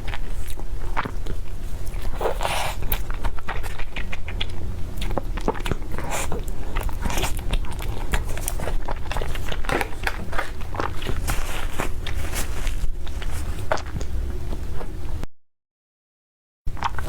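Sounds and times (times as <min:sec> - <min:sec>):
person biting and chewing food: 0:00.0 - 0:15.0, 0:16.7 - 0:17.0.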